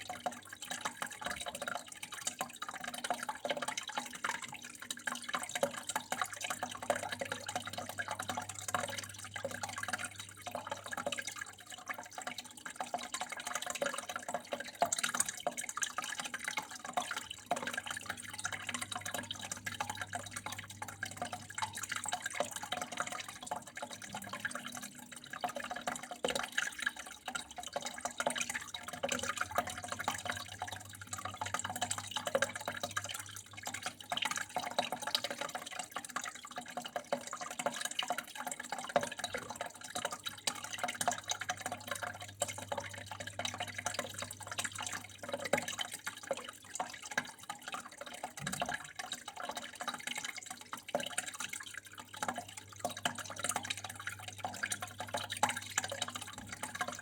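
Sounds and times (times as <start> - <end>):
water drips and splashes: 0.0 - 57.0
water flowing and trickling: 0.0 - 57.0.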